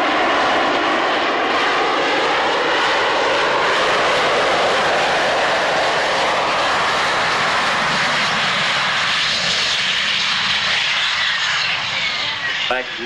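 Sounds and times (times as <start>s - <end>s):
aircraft engine flying past: 0.0s - 13.0s.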